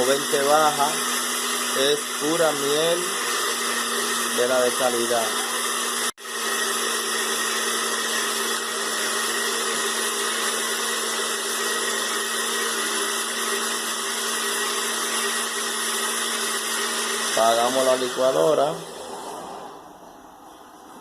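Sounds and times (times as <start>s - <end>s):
blender running: 0.0s - 19.9s.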